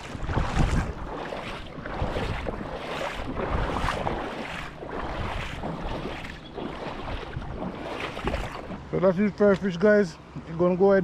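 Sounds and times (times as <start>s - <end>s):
wind on microphone: 0.0s - 8.9s
fast-flowing river water: 0.0s - 9.4s.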